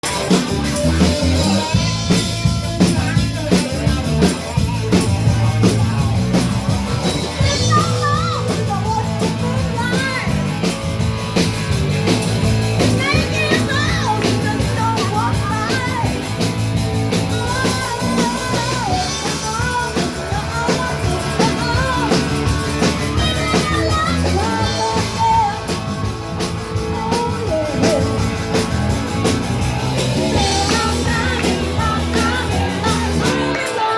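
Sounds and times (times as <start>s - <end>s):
blues band playing rock and roll: 0.0s - 33.9s.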